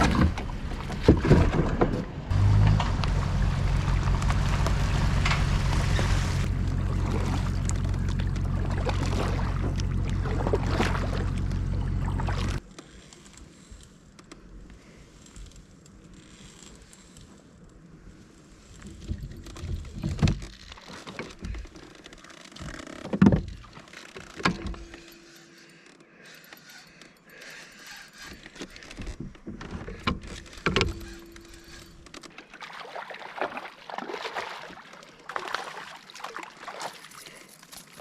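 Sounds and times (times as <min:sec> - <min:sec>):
water sloshing and splashing: 0:00.0 - 0:13.2, 0:18.2 - 0:25.4, 0:27.8 - 0:38.0.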